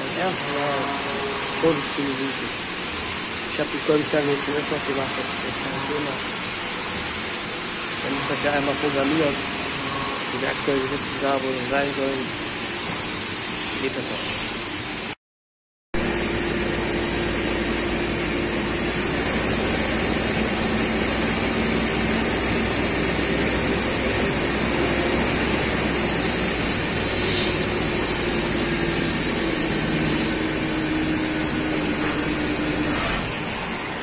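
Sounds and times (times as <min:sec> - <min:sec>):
hiss of metal cutting: 0:00.0 - 0:12.7, 0:18.6 - 0:33.4
lathe running: 0:00.0 - 0:12.7, 0:16.0 - 0:34.0.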